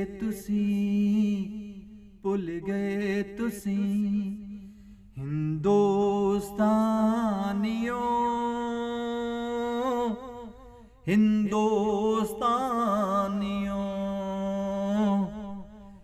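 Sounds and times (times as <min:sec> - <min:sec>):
man singing devotional song: 0:00.0 - 0:16.0.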